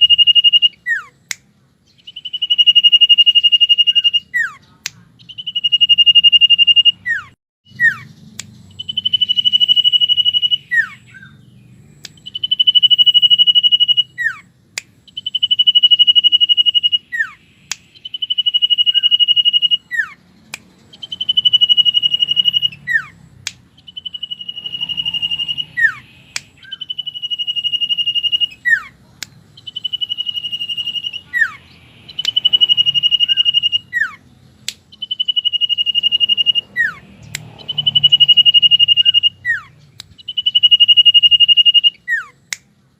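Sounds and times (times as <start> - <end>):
bird whistling song: 0.0 - 42.6.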